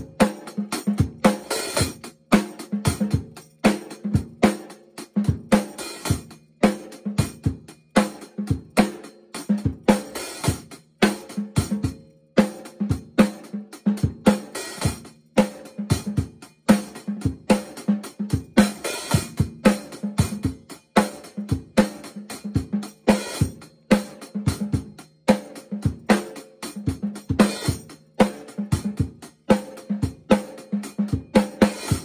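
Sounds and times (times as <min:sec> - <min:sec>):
rock drum groove: 0:00.0 - 0:32.0.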